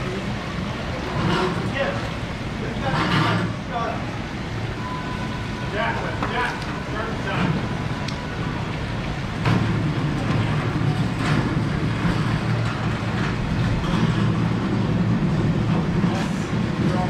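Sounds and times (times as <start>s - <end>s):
gas burners rumbling: 0.0s - 17.0s.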